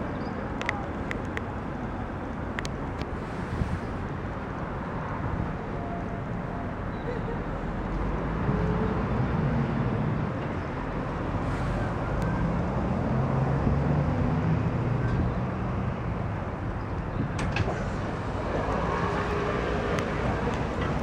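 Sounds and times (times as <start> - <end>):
road traffic rumble: 0.0 - 21.0
passing vehicle engines: 0.5 - 21.0.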